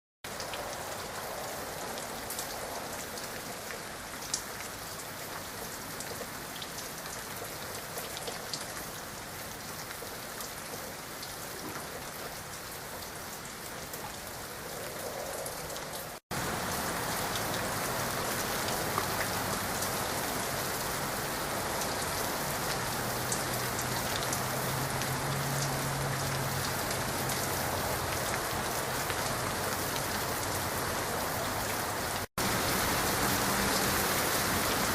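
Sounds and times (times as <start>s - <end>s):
heavy rain falling: 0.2s - 34.9s
raindrops ticking close by: 0.3s - 34.9s.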